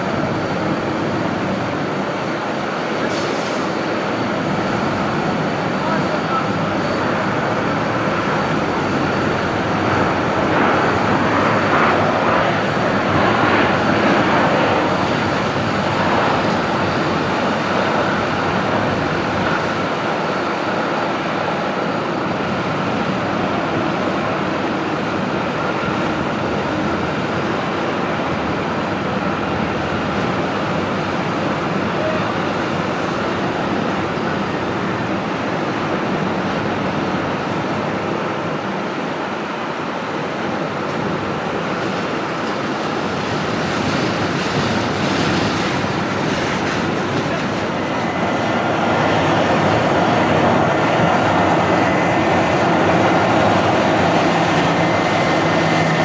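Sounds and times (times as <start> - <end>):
jet engines roaring on landing: 0.0 - 56.0.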